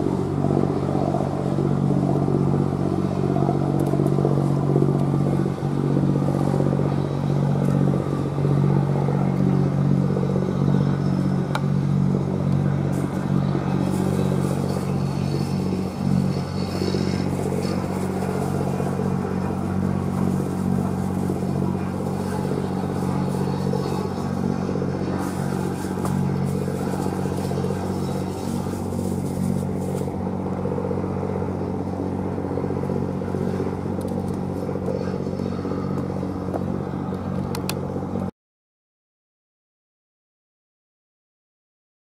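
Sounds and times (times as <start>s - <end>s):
boat engine droning: 0.0s - 38.3s.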